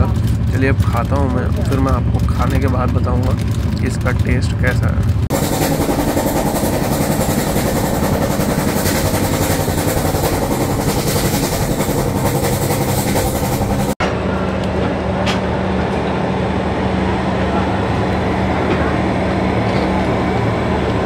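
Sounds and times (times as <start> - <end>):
steady low hum: 0.0 - 21.0
train wheel and rail noise: 0.0 - 21.0.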